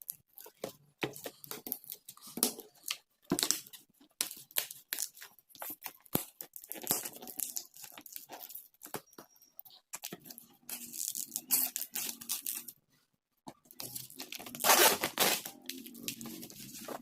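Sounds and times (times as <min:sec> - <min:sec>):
packaging crinkling and tearing: 0:01.4 - 0:09.0, 0:10.0 - 0:12.7, 0:13.7 - 0:17.0.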